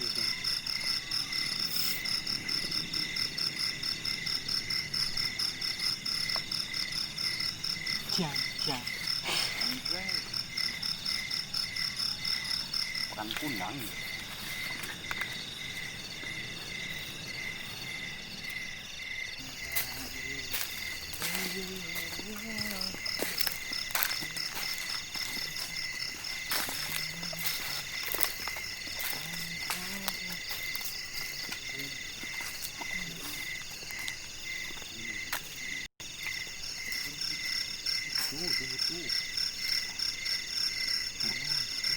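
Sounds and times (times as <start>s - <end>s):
insects trilling: 0.0s - 41.9s
pulsing insect chirp: 0.0s - 41.9s.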